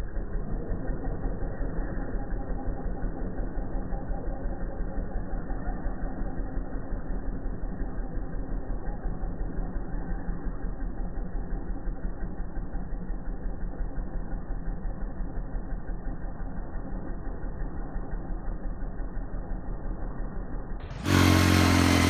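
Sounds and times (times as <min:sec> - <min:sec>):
model truck engine running: 0:00.0 - 0:22.0.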